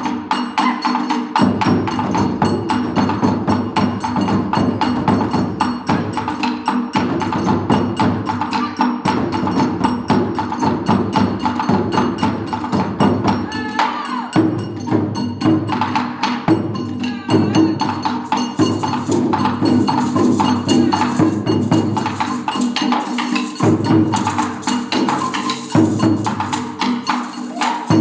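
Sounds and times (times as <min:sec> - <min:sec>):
drums struck with sticks: 0:00.0 - 0:28.0.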